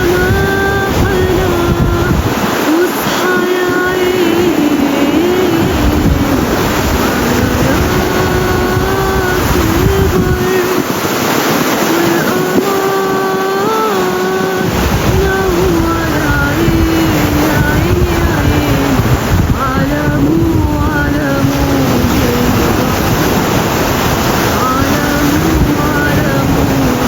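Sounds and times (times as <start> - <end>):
person singing slow melody: 0.0 - 27.0
sea waves: 0.0 - 27.0
wind rumble on microphone: 0.0 - 27.0.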